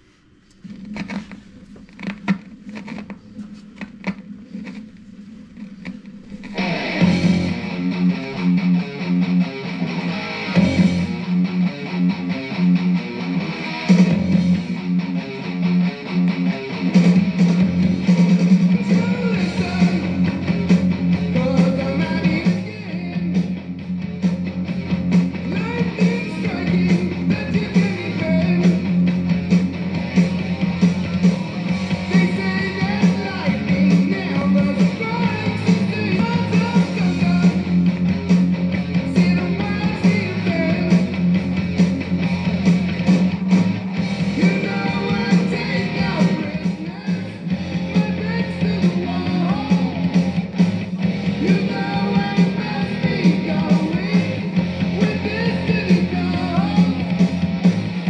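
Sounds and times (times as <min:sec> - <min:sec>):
hard rock band playing: 0:06.4 - 0:58.0.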